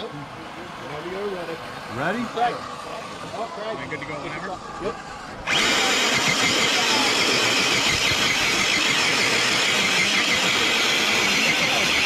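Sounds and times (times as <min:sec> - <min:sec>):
rc truck motor whining: 0:00.0 - 0:12.0.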